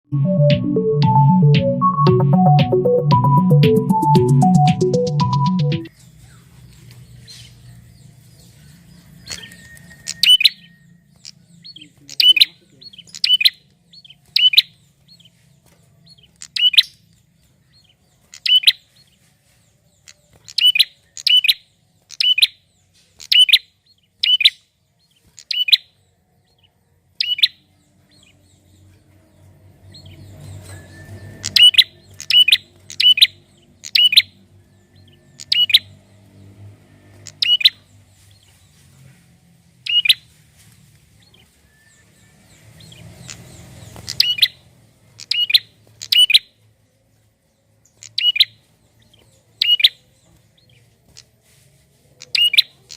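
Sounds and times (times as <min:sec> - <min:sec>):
bird singing high chirps: 0:00.2 - 0:36.2, 0:37.1 - 0:38.6, 0:39.8 - 0:40.2, 0:41.2 - 0:46.6, 0:47.6 - 0:51.3, 0:52.2 - 0:52.8.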